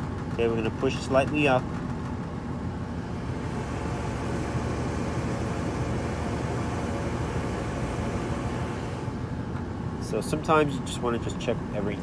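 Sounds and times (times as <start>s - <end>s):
clothes dryer running: 0.0s - 12.0s.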